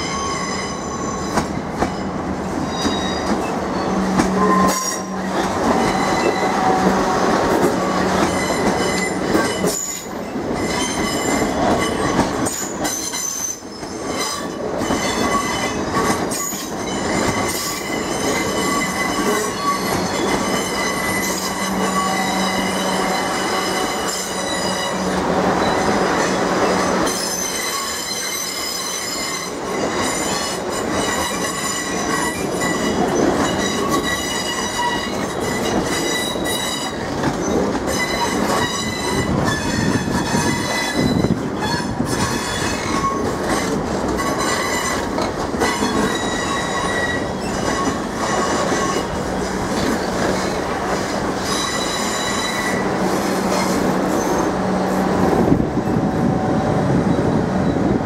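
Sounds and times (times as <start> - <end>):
train wheels squealing: 0.0 - 52.9, 53.5 - 54.9
rumble of train coaches: 0.0 - 58.0.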